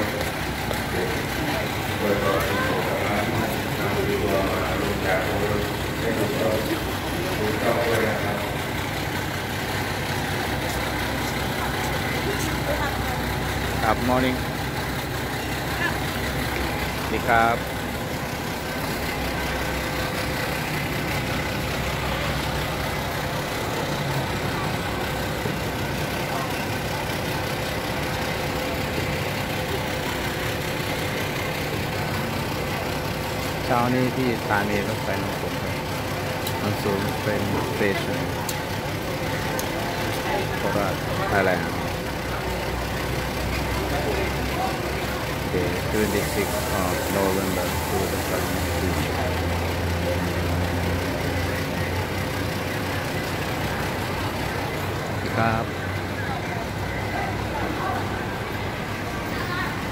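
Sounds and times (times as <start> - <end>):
diesel train engine idling: 0.0 - 59.9.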